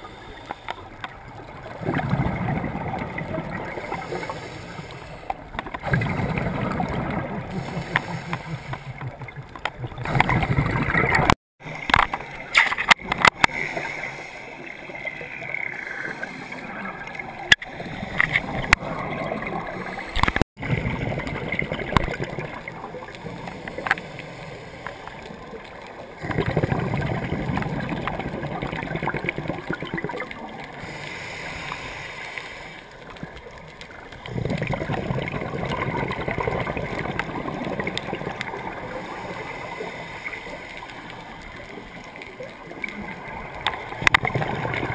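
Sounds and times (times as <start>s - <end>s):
underwater bubbles gurgling: 0.0s - 44.9s.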